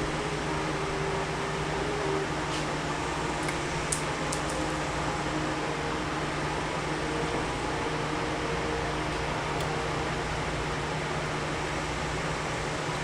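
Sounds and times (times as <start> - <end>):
fan humming and hissing: 0.0 - 13.0.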